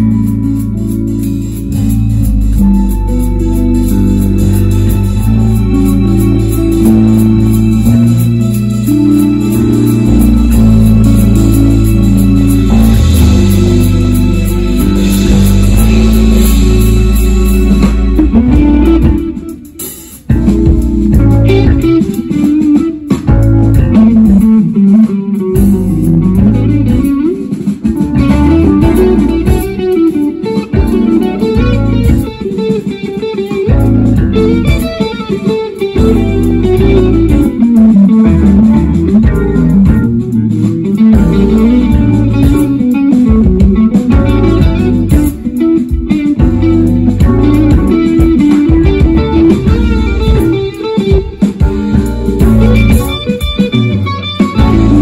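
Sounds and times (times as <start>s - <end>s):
busy electric bass line: 0.0s - 55.0s
live band playing jazz fusion: 0.0s - 55.0s.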